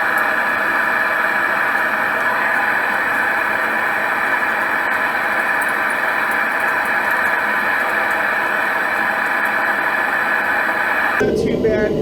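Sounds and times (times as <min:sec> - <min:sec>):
forge burner rushing: 0:00.0 - 0:11.3.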